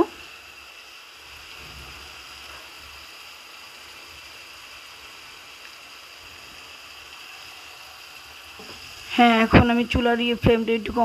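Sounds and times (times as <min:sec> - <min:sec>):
spice paste sizzling in oil: 0:00.0 - 0:11.0.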